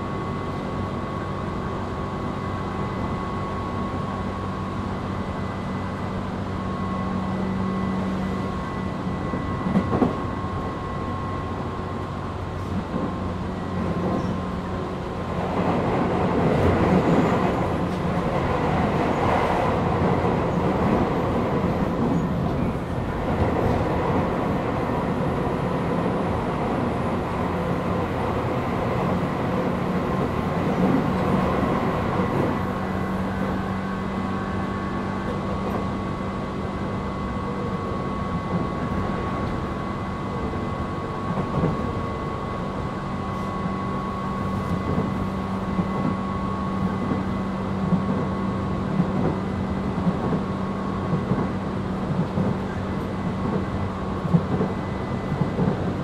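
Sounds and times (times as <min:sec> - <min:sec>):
train traction motor and wheel noise: 0:00.0 - 0:56.0.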